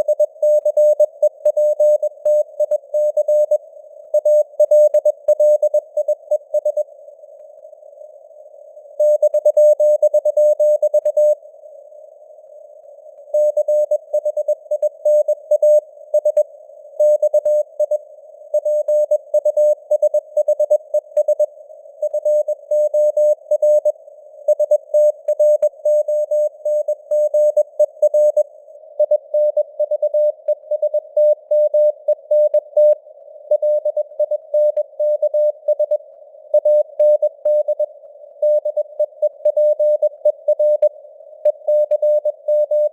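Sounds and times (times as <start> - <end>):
receiver hiss: 0.0 - 42.9.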